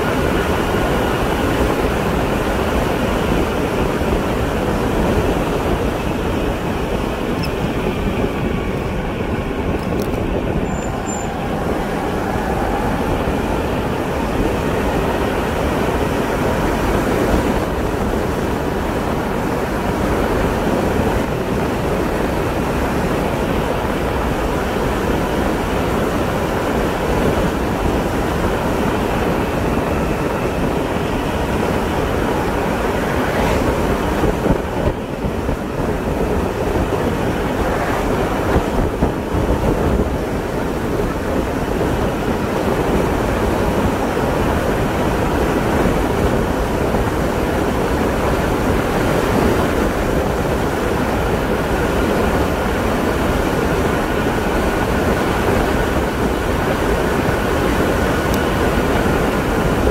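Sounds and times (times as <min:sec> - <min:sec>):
tyre and road noise: 0:00.0 - 0:59.9
wind rushing on microphone: 0:00.0 - 0:59.9.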